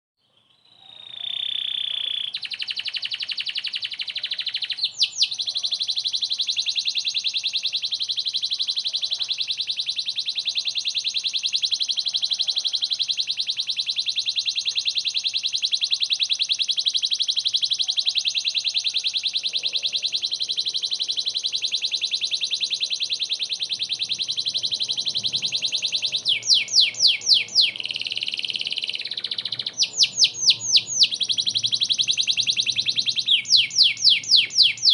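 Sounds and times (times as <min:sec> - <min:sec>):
canary singing rapid trill: 0:00.6 - 0:34.9.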